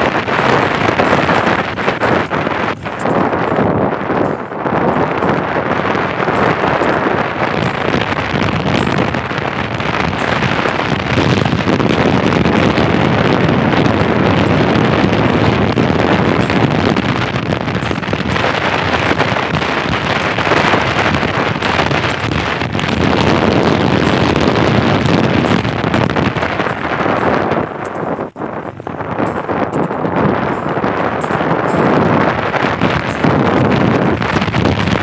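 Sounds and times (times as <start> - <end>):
wind rushing across microphone: 0.0 - 35.0.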